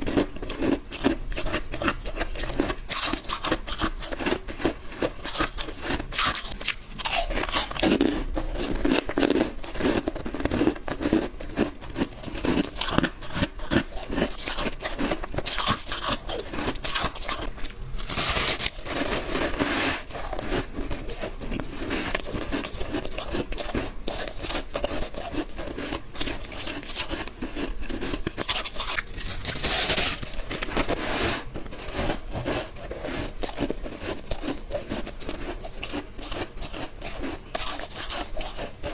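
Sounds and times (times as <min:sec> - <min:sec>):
person chewing ice crunching: 0:00.0 - 0:38.9.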